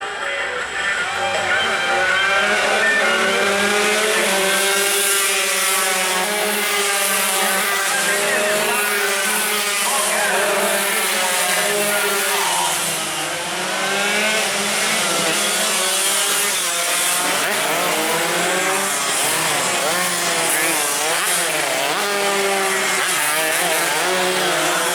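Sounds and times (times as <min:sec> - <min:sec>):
motorcycle engines revving: 0:00.0 - 0:24.9.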